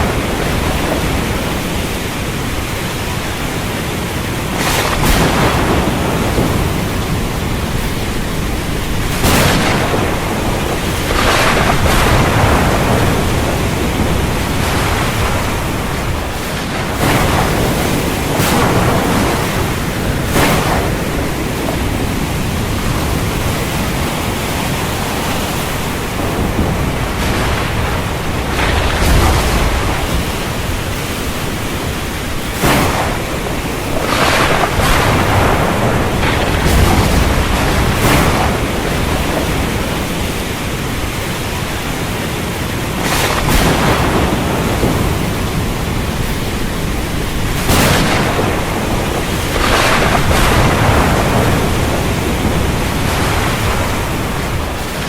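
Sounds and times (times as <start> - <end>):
surf crashing: 0.0 - 55.0.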